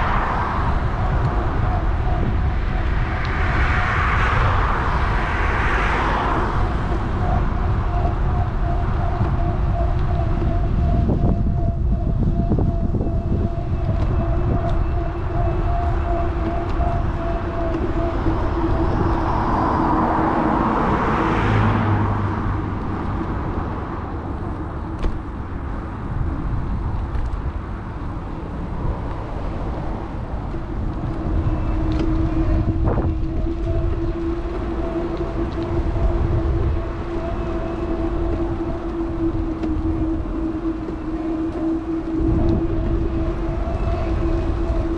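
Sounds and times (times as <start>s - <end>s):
car passing: 0.0s - 11.2s, 12.9s - 44.9s
electric bike motor hum: 0.0s - 44.9s
wind and road rumble: 0.0s - 44.9s.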